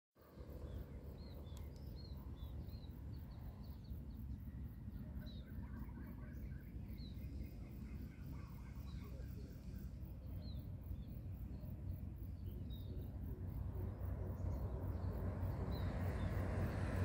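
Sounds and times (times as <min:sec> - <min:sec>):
low outdoor rumble: 0:00.2 - 0:17.0
small birds chirping: 0:00.5 - 0:17.0.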